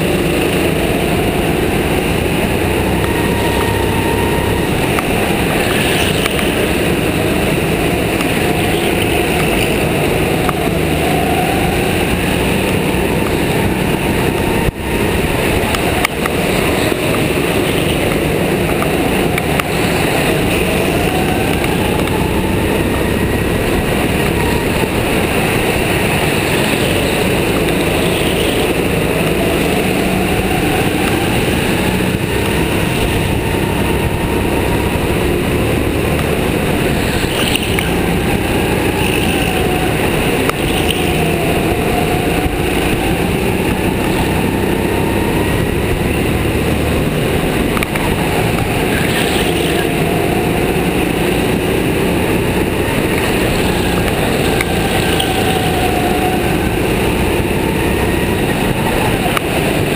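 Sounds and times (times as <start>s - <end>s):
go-kart motor running: 0.0s - 59.9s.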